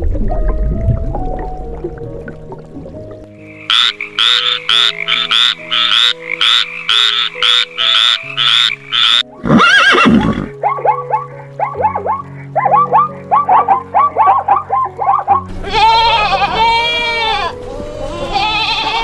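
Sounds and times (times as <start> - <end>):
background music: 0.0 - 19.0
animal calls: 3.6 - 19.0.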